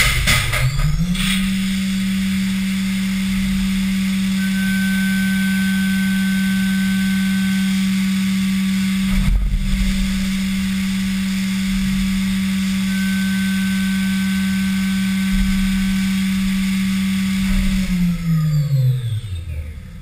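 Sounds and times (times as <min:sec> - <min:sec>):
low rumble: 0:00.0 - 0:20.0
milling machine spindle hum: 0:00.0 - 0:20.0.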